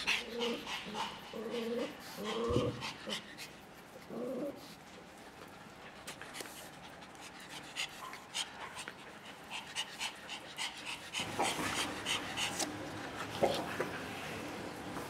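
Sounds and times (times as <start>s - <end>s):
dog panting: 0.0s - 14.1s.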